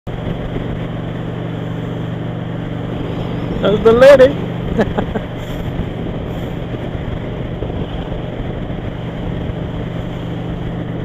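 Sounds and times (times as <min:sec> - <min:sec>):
wind and road noise: 0:00.1 - 0:11.0.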